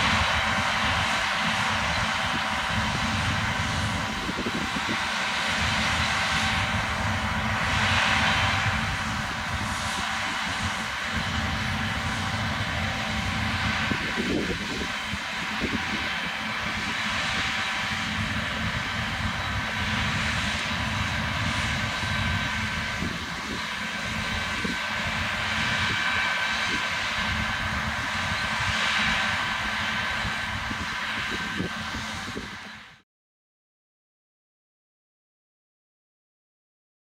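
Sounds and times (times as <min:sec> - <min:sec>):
combine harvester drone: 0:00.0 - 0:33.0
high mechanical whine: 0:00.0 - 0:33.0.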